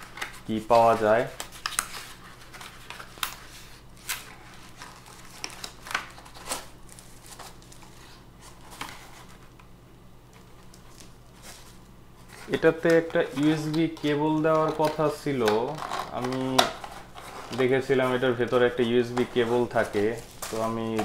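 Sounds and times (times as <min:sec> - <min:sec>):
packaging crinkling: 0:00.0 - 0:09.6, 0:10.3 - 0:21.0.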